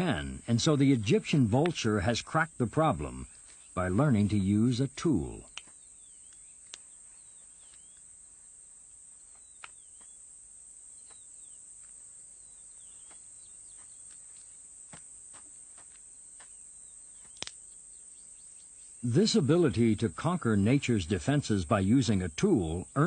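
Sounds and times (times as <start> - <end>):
faint chirps: 0.0 - 14.7, 15.5 - 23.0
insect hiss: 0.0 - 23.0.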